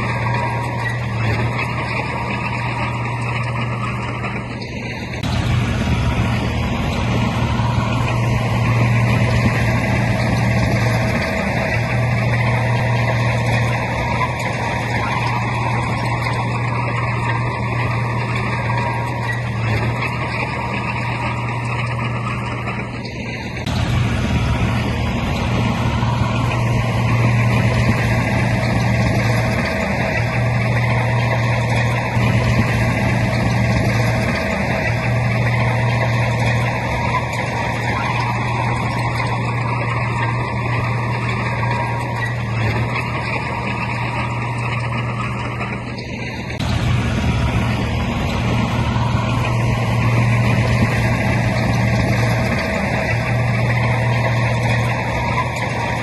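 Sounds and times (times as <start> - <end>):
bulldozer diesel engine humming: 0.0 - 56.0.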